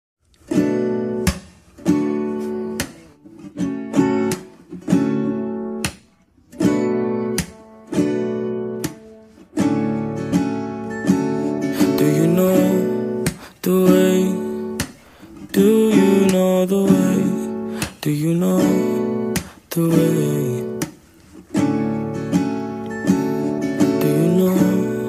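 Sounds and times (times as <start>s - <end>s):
acoustic guitar strumming: 0.4s - 25.0s.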